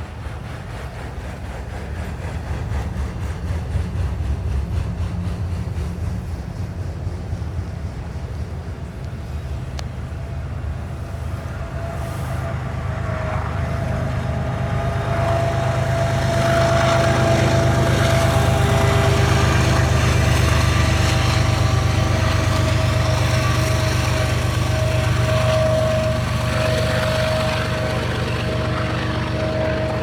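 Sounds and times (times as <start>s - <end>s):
diesel locomotive engine rumbling: 0.0s - 30.0s.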